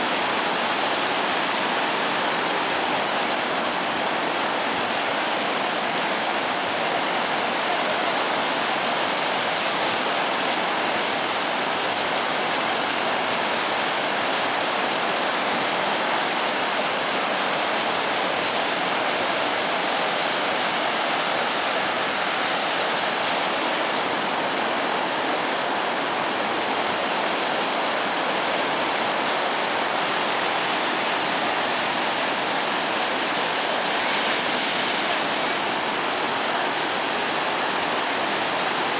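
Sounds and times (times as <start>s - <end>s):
floodwater rushing: 0.0s - 38.9s.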